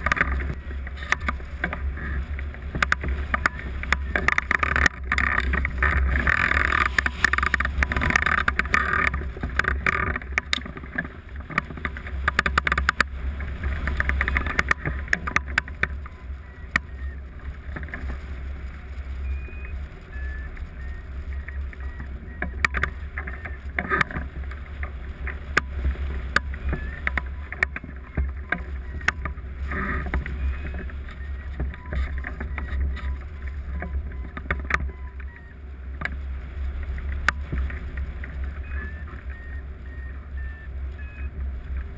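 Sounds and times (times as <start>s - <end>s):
sharp clicks and rattles: 0.0s - 18.4s, 19.0s - 41.9s.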